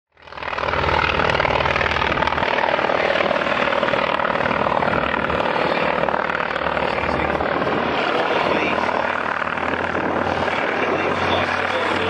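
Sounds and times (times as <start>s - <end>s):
propeller aircraft engines droning: 0.1s - 12.0s.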